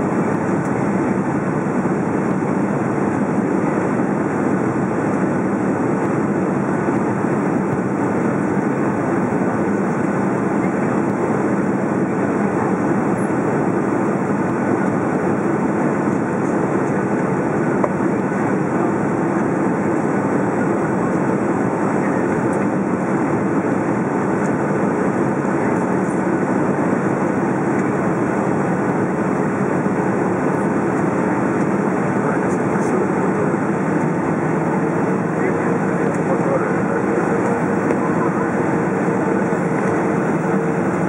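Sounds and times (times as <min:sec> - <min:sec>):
jet engine cabin roar: 0:00.0 - 0:41.0.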